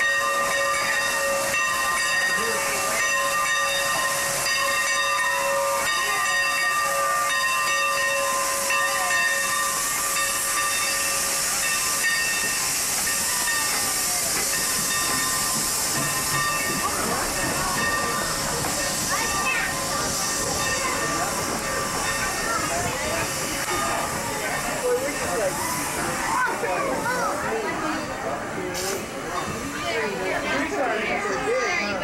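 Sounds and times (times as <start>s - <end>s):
steam locomotive hissing steam: 0.0s - 32.0s.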